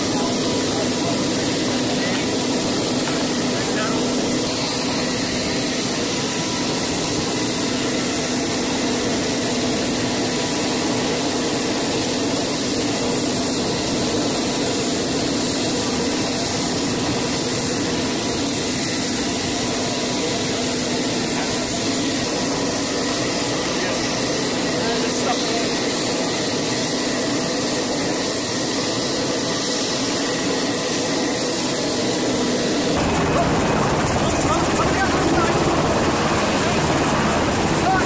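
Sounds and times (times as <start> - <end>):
machinery roaring and humming: 0.0 - 38.0.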